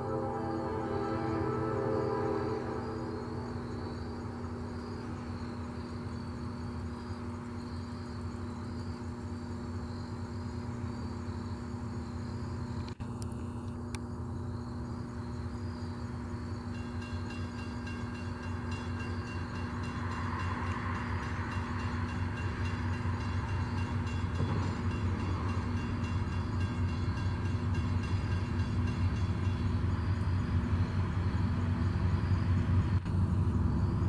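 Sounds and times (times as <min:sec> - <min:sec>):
diesel locomotive engine rumble: 0:00.0 - 0:34.0.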